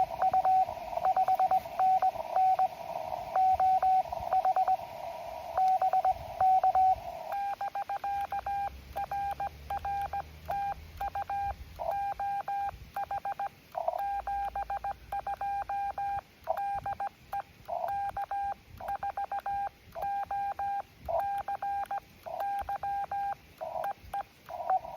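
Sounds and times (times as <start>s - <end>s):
morse code beeps: 0.0s - 4.9s, 5.5s - 24.9s
radio hiss: 0.0s - 24.9s.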